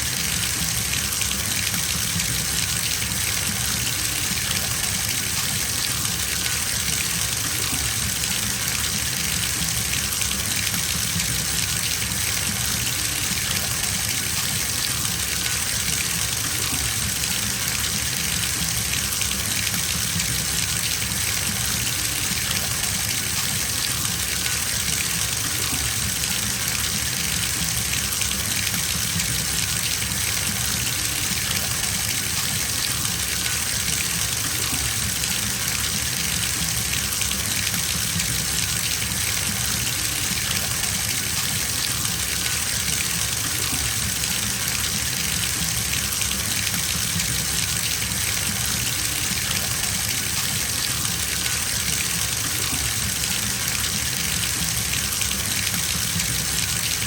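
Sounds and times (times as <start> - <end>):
water gushing from bathtub tap: 0.0 - 57.0.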